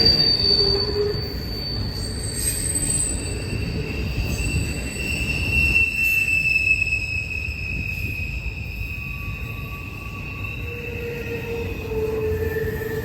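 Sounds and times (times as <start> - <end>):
freight train rumbling past: 0.0 - 13.0
train wheels squealing: 0.0 - 13.0.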